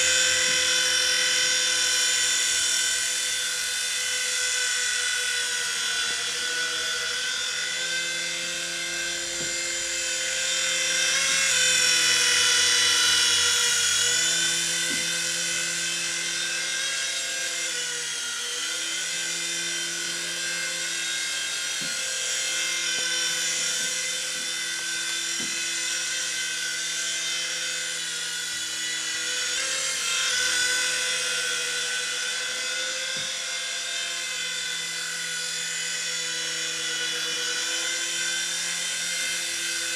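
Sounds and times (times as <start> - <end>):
toy helicopter motor whine: 0.0 - 39.9.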